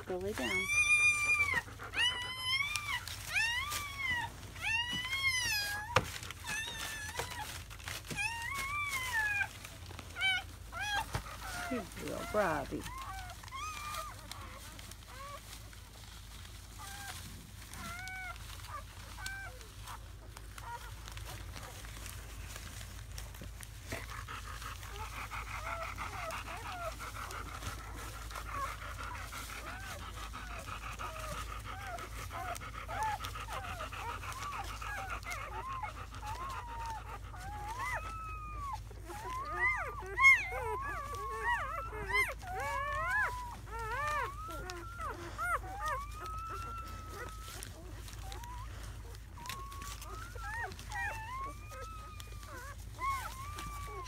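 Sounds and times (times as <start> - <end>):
puppies whimpering and squeaking: 0.0 - 54.0.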